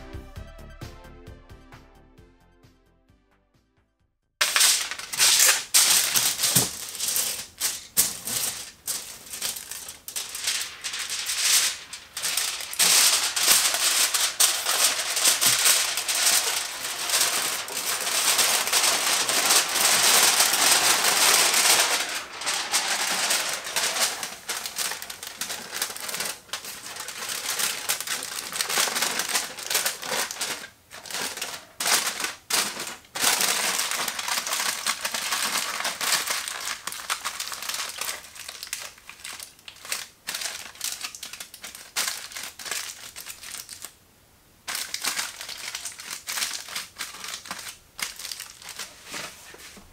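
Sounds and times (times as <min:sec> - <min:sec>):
foil crinkling: 0:04.4 - 0:44.0, 0:44.7 - 0:49.9.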